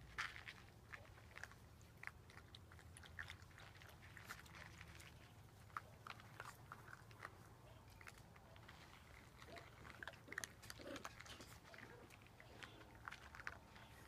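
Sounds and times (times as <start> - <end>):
puppies wrestling on grass: 0.0 - 14.0.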